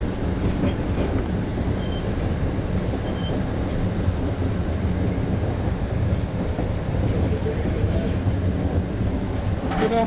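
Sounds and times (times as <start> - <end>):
subway train rumbling on rails: 0.0 - 10.0.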